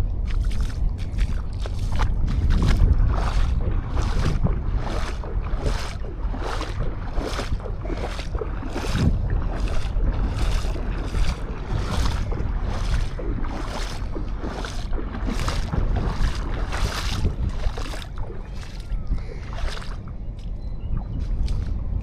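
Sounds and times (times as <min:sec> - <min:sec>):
wind rumble on microphone: 0:00.0 - 0:22.0
footsteps crunching on sand: 0:00.2 - 0:18.9.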